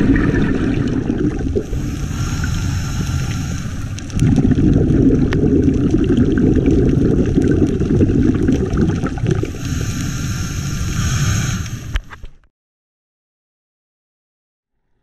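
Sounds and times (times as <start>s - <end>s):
muffled underwater rumble: 0.0s - 12.2s
underwater bubbles gurgling: 0.0s - 12.2s.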